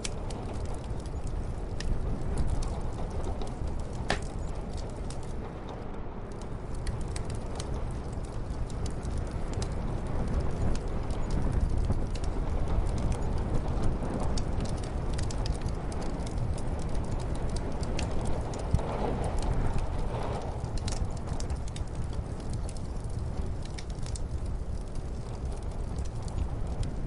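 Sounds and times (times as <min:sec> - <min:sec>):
fireplace crackling and popping: 0:00.0 - 0:27.0
muffled snowstorm wind: 0:00.0 - 0:27.0.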